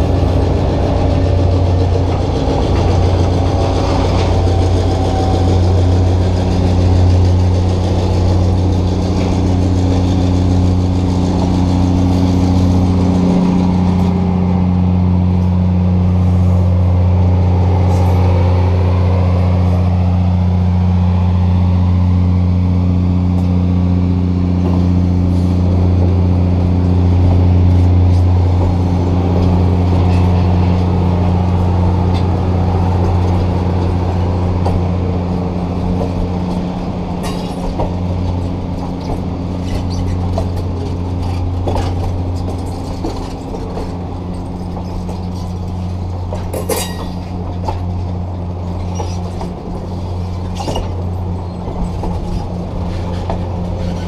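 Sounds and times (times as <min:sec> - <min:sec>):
diesel engine drone: 0:00.0 - 0:54.0
train cars rolling past: 0:00.0 - 0:54.0.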